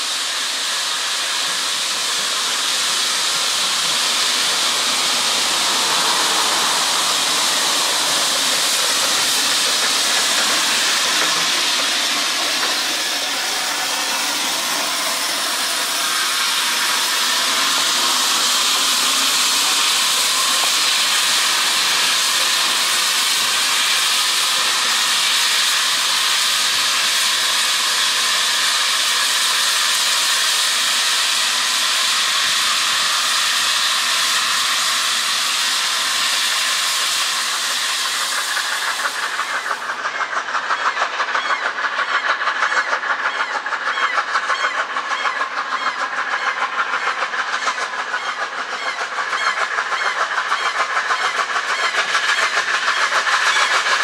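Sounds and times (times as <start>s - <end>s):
fast even steam pulsing: 0.0s - 54.0s
steam locomotive hissing: 0.0s - 54.0s.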